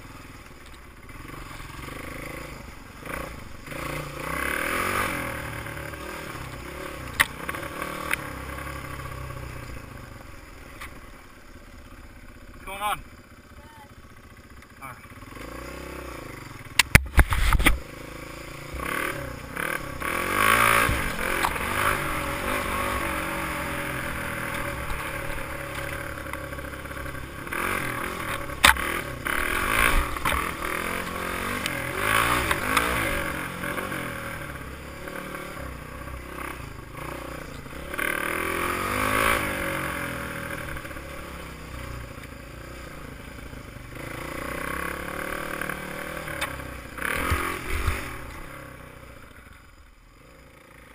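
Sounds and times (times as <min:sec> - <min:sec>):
dirt bike engine revving: 0:00.9 - 0:10.5, 0:14.0 - 0:49.4.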